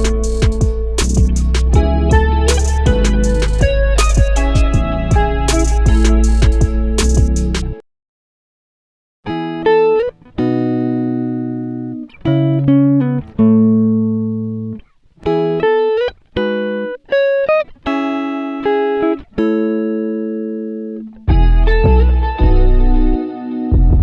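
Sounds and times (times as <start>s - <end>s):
plucked guitar chords: 0.0s - 7.8s, 9.3s - 24.0s.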